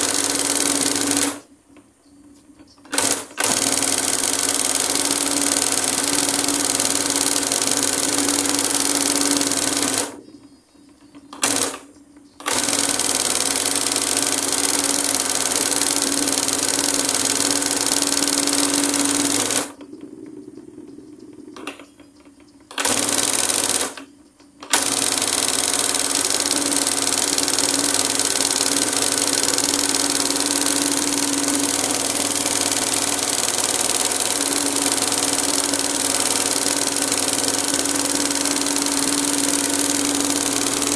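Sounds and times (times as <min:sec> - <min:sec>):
machine hum: 0:00.0 - 0:40.9
embroidery machine needle clatter: 0:02.9 - 0:10.2, 0:11.1 - 0:19.8, 0:21.6 - 0:24.0, 0:24.6 - 0:40.9.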